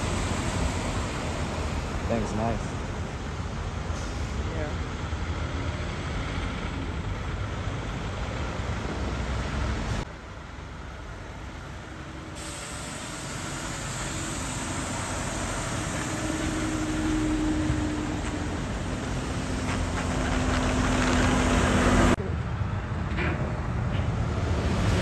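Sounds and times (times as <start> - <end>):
truck diesel engine rumbling: 0.0 - 25.0.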